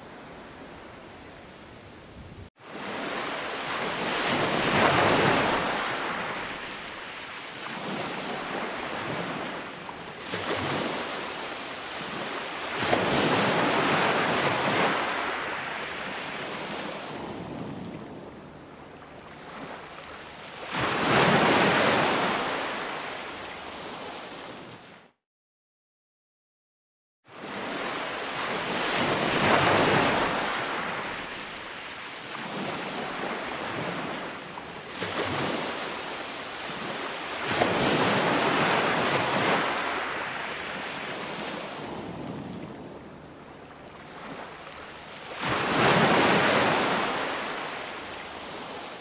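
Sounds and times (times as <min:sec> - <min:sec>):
waves breaking on shore: 0:00.0 - 0:25.2, 0:27.3 - 0:49.0.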